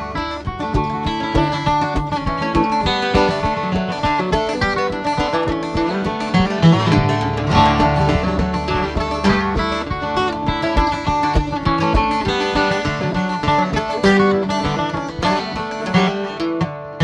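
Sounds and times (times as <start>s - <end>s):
acoustic guitar: 0.0s - 17.0s
mandolin plucked notes: 0.0s - 17.0s.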